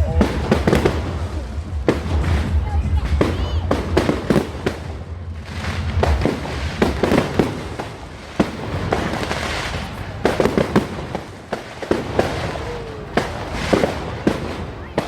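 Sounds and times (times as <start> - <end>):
fireworks bangs and cracks: 0.0 - 15.0
fireworks hissing: 0.0 - 15.0.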